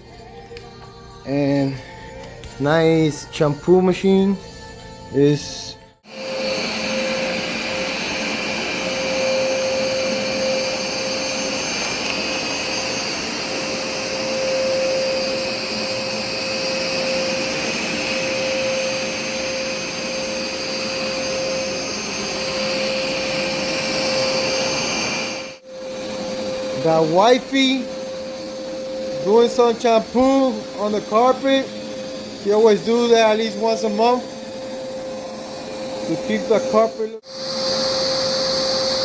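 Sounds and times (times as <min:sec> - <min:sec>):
carpet cleaner running: 0:06.0 - 0:39.0.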